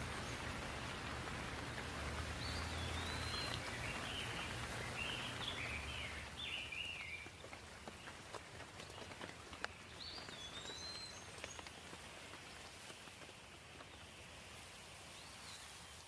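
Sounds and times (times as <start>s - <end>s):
light rain: 0.0s - 16.0s.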